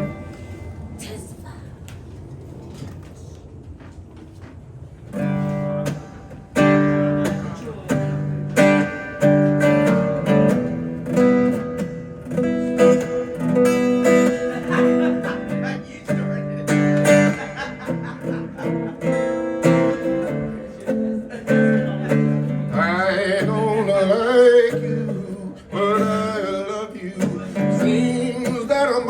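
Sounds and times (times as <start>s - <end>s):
acoustic guitar strumming chords: 0.0s - 1.0s, 5.1s - 29.0s.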